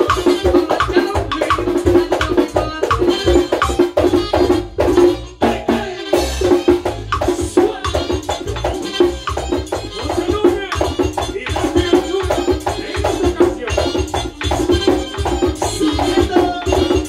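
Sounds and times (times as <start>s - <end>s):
drum played fast rhythm: 0.0s - 17.0s
steady bass line: 0.0s - 17.0s.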